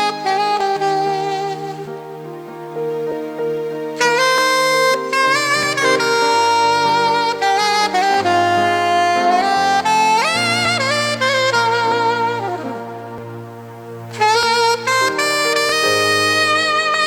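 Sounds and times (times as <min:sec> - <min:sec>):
held chords: 0:00.0 - 0:17.0
sliding lead melody: 0:00.0 - 0:17.0.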